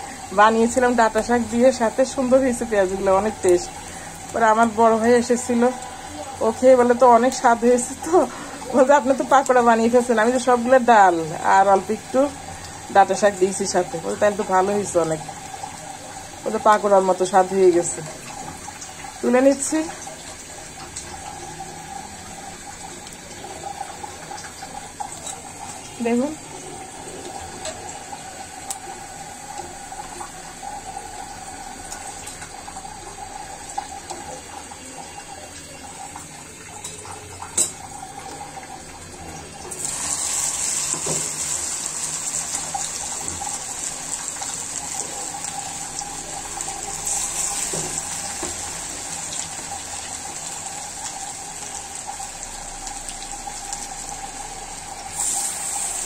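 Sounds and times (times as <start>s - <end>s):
batter sizzling in hot oil: 0.0s - 56.0s.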